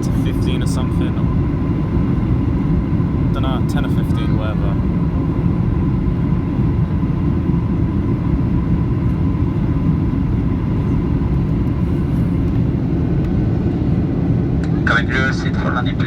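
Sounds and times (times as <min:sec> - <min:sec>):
airplane cabin roar: 0:00.0 - 0:16.0
faint steady whine: 0:00.0 - 0:16.0.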